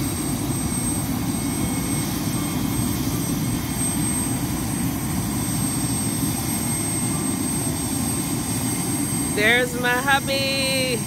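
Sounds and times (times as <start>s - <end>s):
helicopter turbine and rotor noise: 0.0s - 11.0s.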